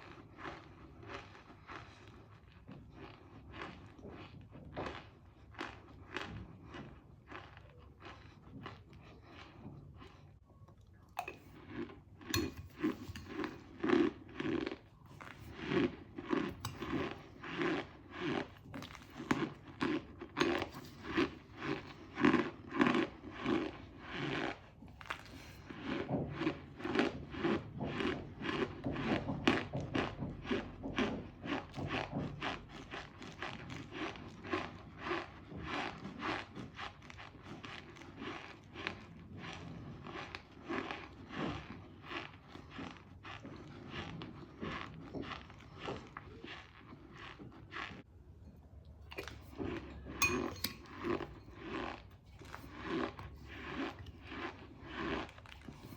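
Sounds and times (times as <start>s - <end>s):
crunching and chewing: 0.0s - 55.9s.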